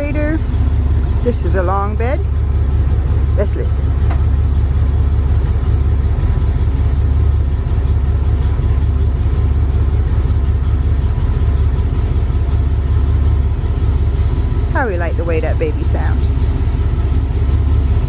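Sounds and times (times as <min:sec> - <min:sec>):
truck engine low rumble: 0:00.0 - 0:18.0.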